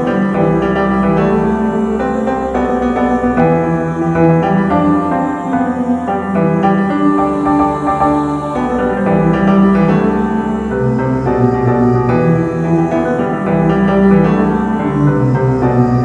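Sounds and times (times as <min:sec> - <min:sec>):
keyboard hymn chords: 0:00.0 - 0:16.0.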